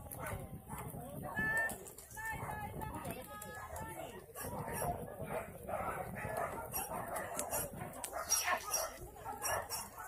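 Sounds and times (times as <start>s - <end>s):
dogs barking and yipping: 0.0s - 2.7s, 4.2s - 10.0s.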